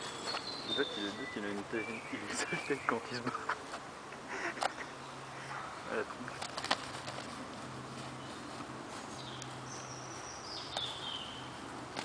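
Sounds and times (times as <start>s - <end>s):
outdoor ambience: 0.0s - 12.0s.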